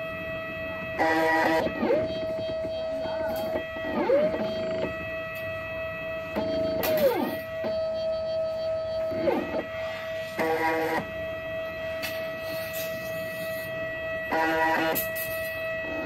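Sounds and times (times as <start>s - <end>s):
stepper motors whining: 0.0s - 5.6s, 6.3s - 11.2s, 12.0s - 16.0s
multi-tone motor buzzes: 0.0s - 11.7s, 13.1s - 16.0s.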